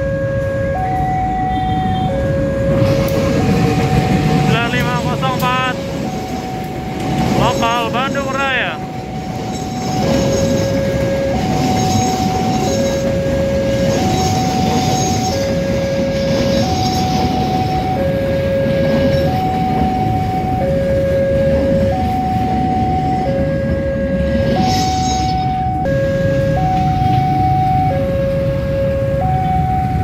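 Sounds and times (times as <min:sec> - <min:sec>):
faint two-tone siren: 0:00.0 - 0:30.0
train coaches rumbling past: 0:00.0 - 0:30.0.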